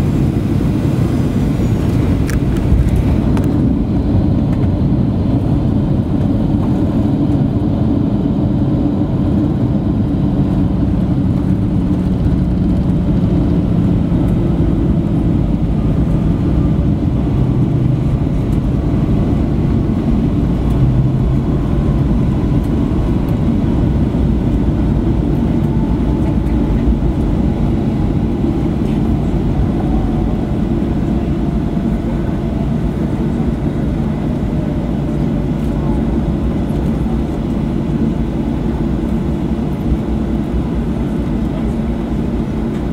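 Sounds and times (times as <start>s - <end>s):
faint jet engine whine: 0.0s - 42.9s
low rumble of engines and wheels: 0.0s - 42.9s.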